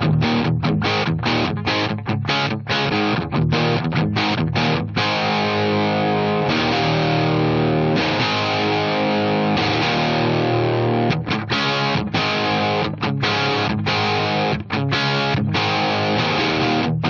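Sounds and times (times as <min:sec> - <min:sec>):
overdriven electric guitar chords: 0:00.0 - 0:17.0.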